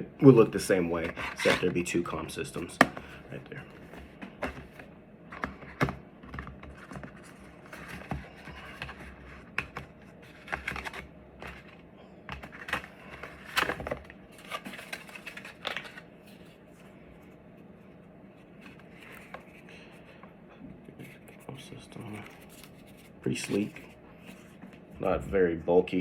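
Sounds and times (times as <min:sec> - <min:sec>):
cardboard and plastic packaging rustling: 0:00.2 - 0:17.3, 0:21.0 - 0:25.0.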